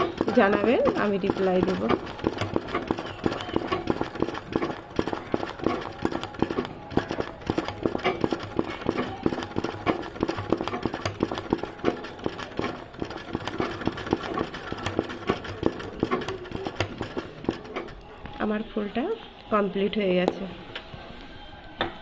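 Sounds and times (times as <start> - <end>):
sewing machine stitching: 0.0 - 18.1.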